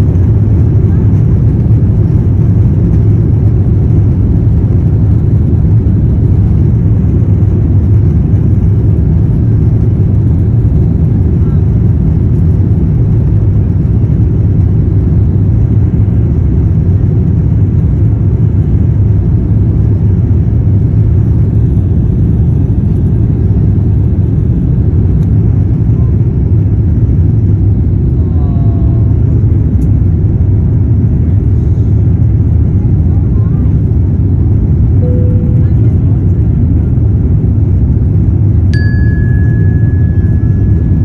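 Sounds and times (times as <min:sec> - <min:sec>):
airplane cabin engine rumble: 0:00.0 - 0:41.0.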